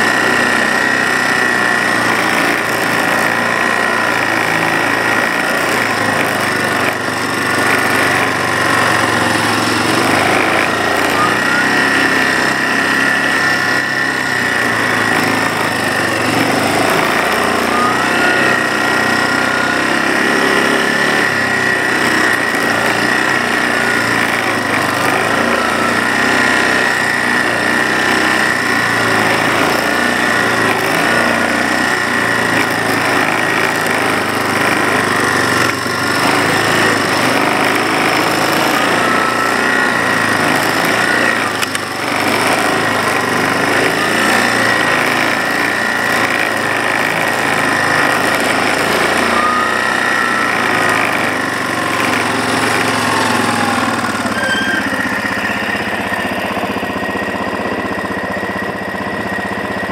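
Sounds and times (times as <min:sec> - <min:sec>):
steady high whine: 0:00.0 - 0:59.6
atv engine running: 0:00.0 - 0:59.9.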